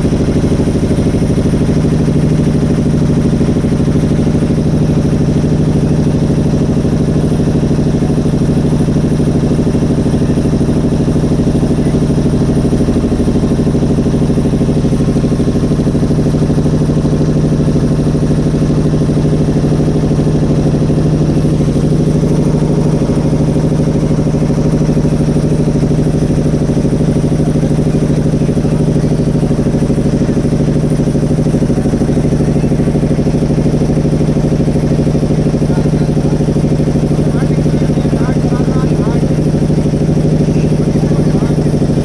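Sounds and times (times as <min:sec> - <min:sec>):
boat engine chugging: 0:00.0 - 0:42.0.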